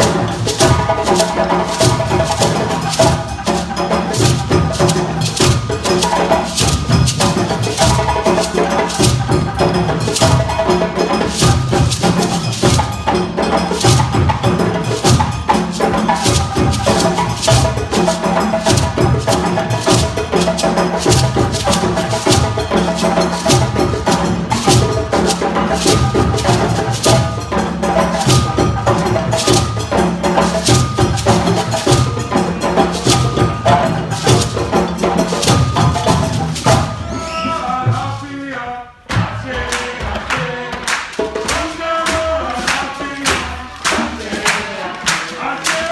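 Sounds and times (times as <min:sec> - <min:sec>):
african drums ensemble: 0:00.0 - 0:45.9.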